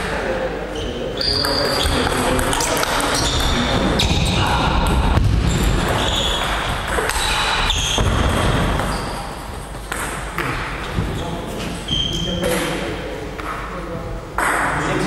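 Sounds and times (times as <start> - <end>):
dense background noise: 0.0 - 15.0.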